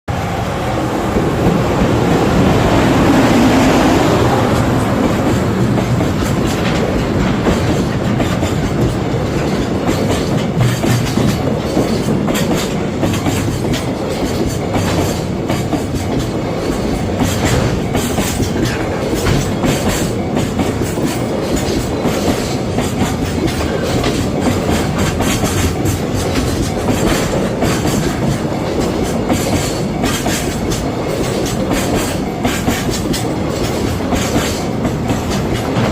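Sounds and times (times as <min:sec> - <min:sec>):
freight train rumbling past: 0:00.1 - 0:35.9
wheel clicks over rail joints: 0:05.8 - 0:35.9.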